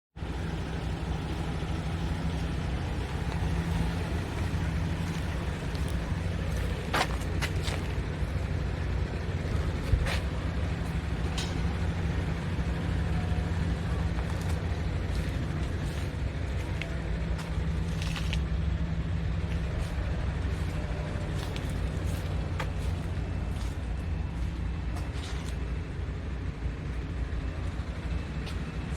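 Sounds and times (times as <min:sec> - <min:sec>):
diesel truck engine idling: 0:00.2 - 0:28.9.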